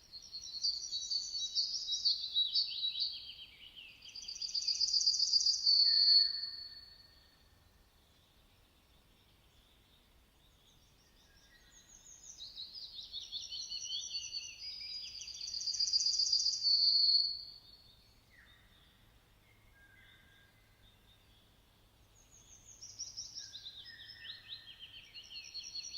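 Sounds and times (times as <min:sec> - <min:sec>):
songbirds chirping and trilling: 0:00.0 - 0:25.9.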